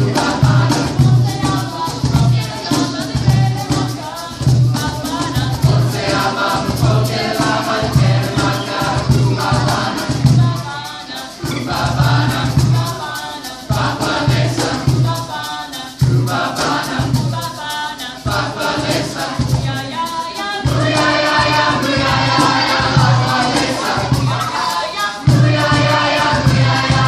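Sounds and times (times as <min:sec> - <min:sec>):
choir singing call-and-response: 0:00.0 - 0:27.0
shaker percussion ticks: 0:00.0 - 0:27.0.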